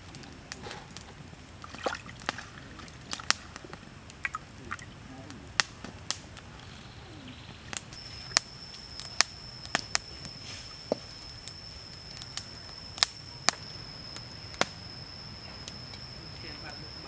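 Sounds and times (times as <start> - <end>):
steady high-pitched whine: 0.0 - 17.0
wood fire crackling and popping: 0.0 - 17.0.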